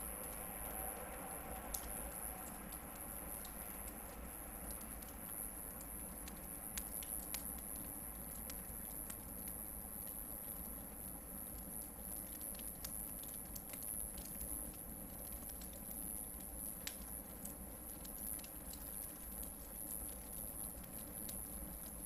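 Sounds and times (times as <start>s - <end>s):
campfire crackling: 0.0s - 22.0s
fire popping: 0.0s - 22.0s.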